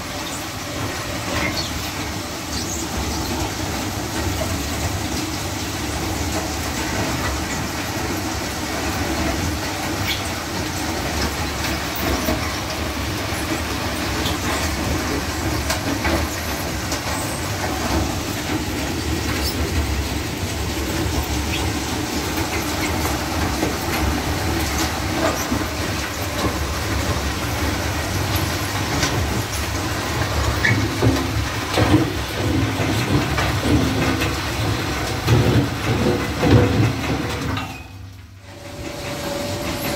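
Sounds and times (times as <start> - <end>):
screw conveyor rumbling: 0.0 - 39.9.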